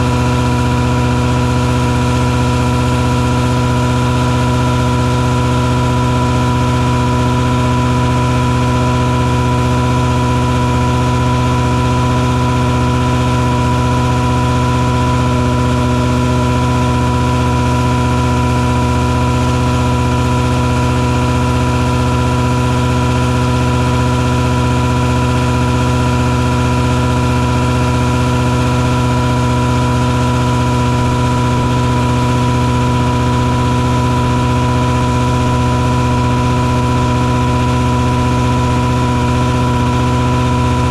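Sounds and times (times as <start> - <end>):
fogging machine hum: 0.0 - 40.9
truck engine drone: 0.0 - 40.9.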